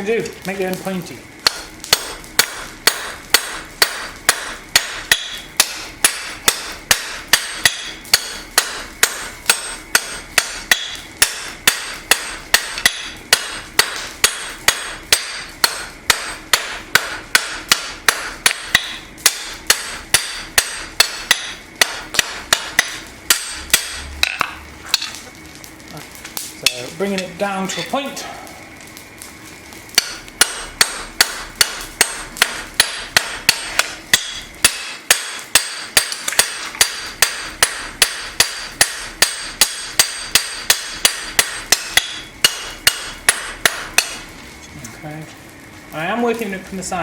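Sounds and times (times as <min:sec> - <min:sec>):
hammer striking steel on anvil: 0:01.4 - 0:25.1, 0:26.6 - 0:28.0, 0:29.9 - 0:44.3.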